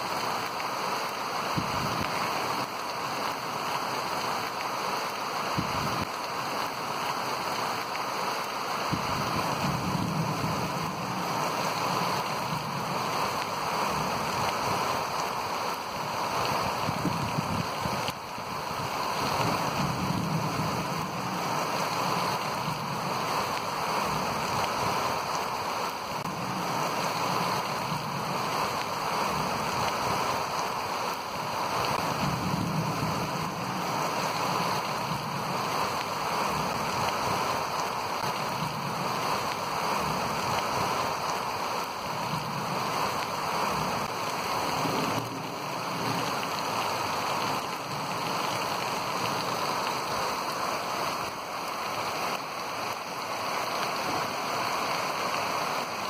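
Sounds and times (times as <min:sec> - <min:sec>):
heavy rain on paving: 0:00.0 - 0:56.0.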